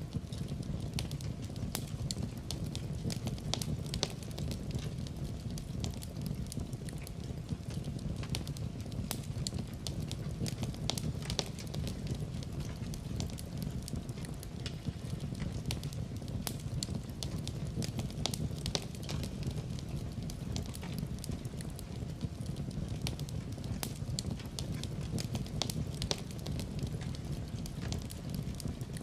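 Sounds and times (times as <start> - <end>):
fireplace crackles and pops: 0.0 - 29.0
low roar of flames: 0.0 - 29.0.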